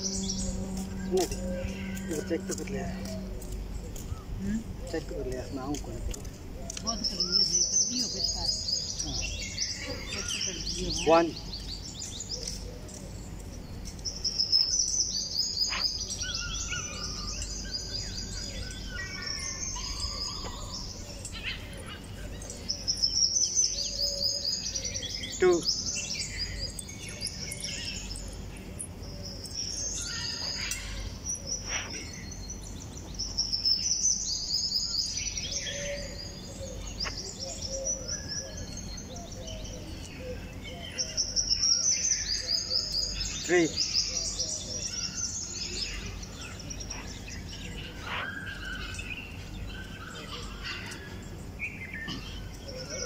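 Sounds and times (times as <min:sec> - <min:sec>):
birds chirping and singing: 0:00.0 - 0:53.0
steady low hum: 0:00.0 - 0:53.0.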